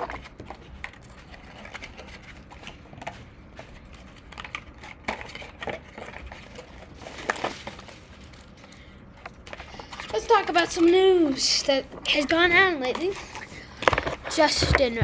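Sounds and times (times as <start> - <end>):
objects being handled: 0.0 - 15.0.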